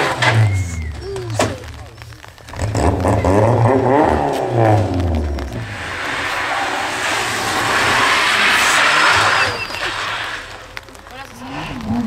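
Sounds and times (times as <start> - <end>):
rally car engine revving: 0.0 - 10.6
tyres hissing on wet tarmac: 0.0 - 12.0.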